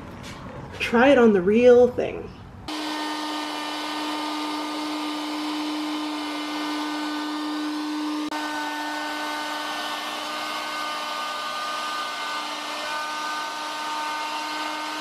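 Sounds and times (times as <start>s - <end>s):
router motor whine: 2.7s - 15.0s.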